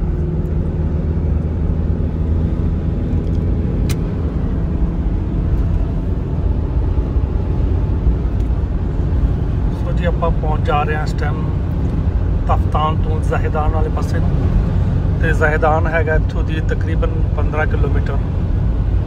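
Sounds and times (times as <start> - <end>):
engine and tyre road drone: 0.0 - 19.0.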